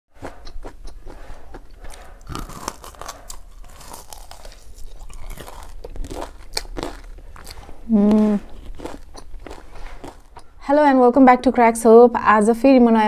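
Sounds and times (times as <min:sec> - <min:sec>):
crunching and chewing fried food: 0:00.2 - 0:10.6.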